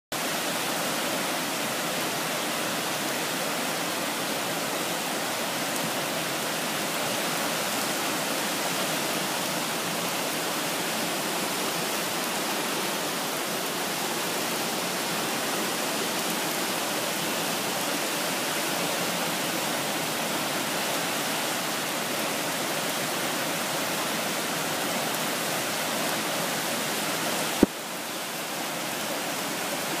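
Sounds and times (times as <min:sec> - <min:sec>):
river rushing roar: 0:00.2 - 0:30.0.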